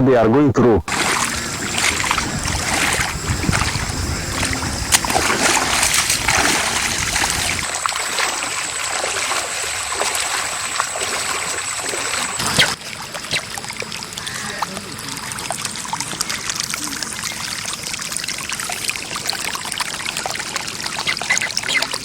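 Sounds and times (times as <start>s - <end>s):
floodwater splashing and sloshing: 0.9s - 22.0s.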